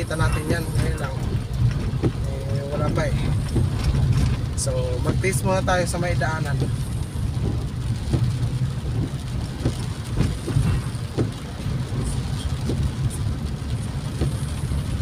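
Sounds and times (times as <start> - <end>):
tyres on wet road: 0.0 - 15.0
vehicle engine rumble: 0.0 - 15.0.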